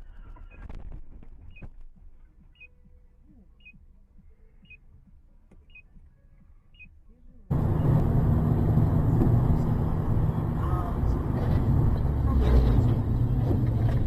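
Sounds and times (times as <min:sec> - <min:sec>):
faint low rumble: 0:00.0 - 0:14.0.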